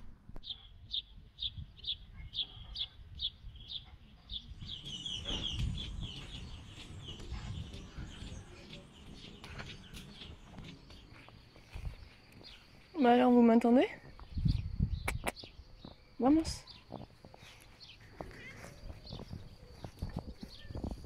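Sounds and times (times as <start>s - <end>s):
small bird chirping: 0.4s - 21.0s.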